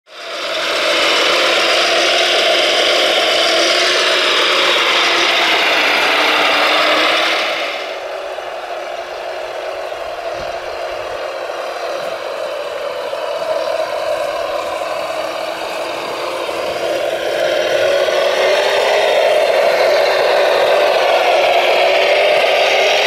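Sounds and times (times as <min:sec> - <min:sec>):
toy loader motor whine: 0:00.1 - 0:23.0.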